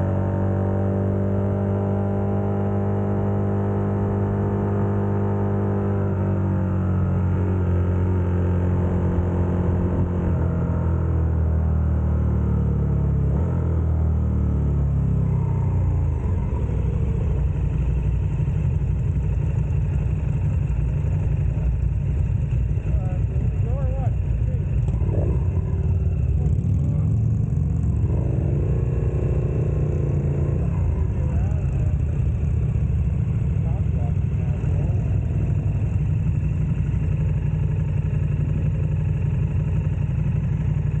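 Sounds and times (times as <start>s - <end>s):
motorcycle engine rumbling: 0.0s - 41.0s.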